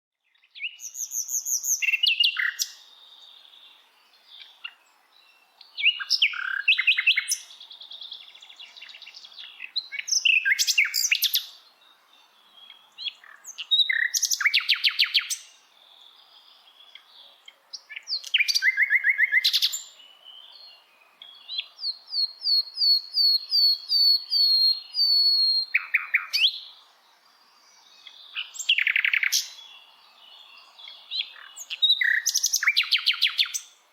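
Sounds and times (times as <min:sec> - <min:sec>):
songbirds singing: 0:00.1 - 0:33.9
faint background hiss: 0:00.2 - 0:33.9.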